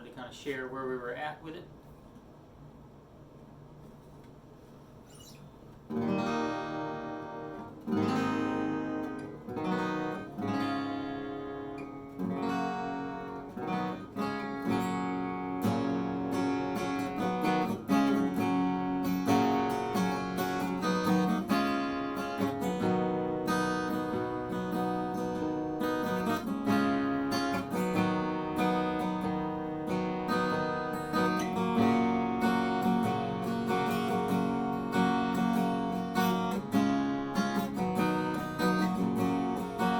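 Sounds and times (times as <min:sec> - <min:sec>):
acoustic guitar strummed chords: 0:05.1 - 0:39.9.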